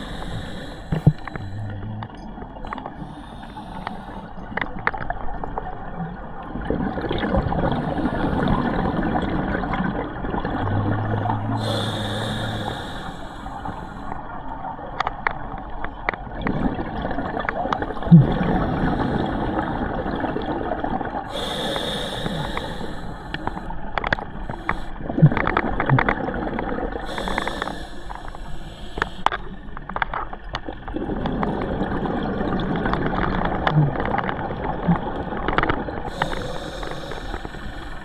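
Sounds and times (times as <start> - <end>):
steady underwater noise: 0.0 - 38.0
underwater bubbles gurgling: 0.0 - 38.0.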